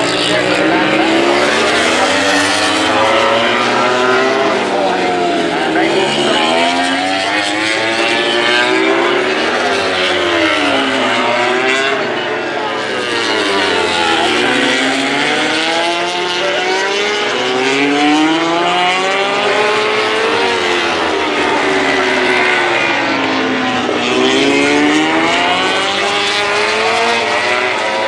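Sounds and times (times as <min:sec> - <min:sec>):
racing motorcycle engines revving: 0:00.0 - 0:28.0.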